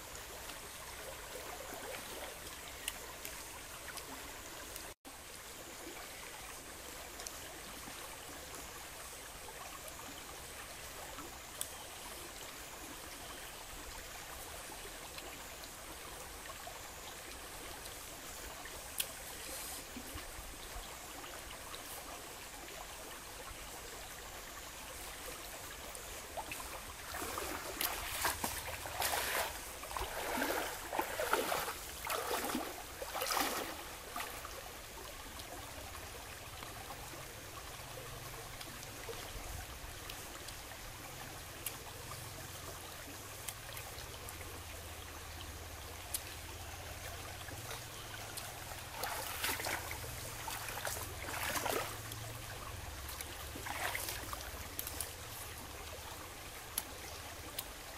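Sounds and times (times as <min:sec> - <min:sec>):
stream trickling over rocks: 0:00.0 - 0:57.9.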